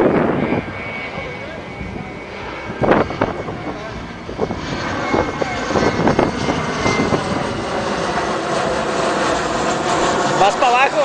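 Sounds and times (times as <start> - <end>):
airplane engine droning: 0.0 - 11.0.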